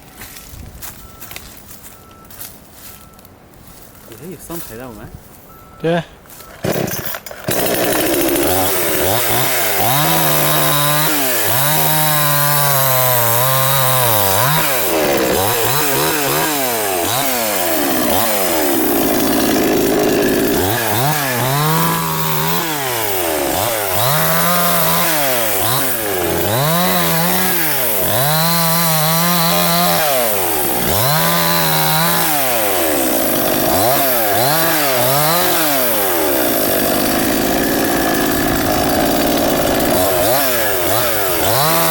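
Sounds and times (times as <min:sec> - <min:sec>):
chainsaw engine revving: 0:06.5 - 0:41.9.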